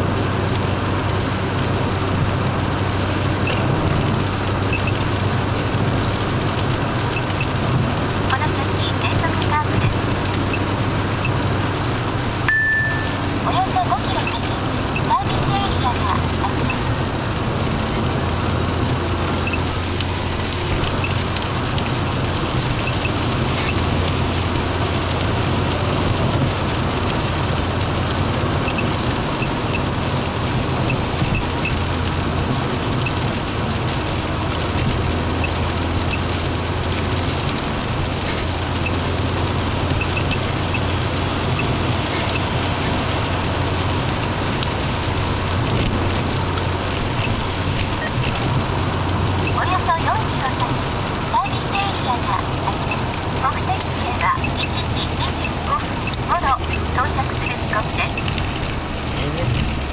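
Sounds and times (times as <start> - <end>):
car road noise inside cabin: 0.0 - 59.9.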